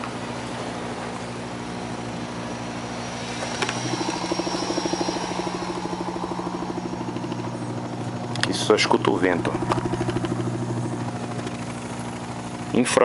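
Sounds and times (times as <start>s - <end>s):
low tone hum from loudspeaker: 0.0s - 13.0s
rapid even fluttering: 1.4s - 12.6s.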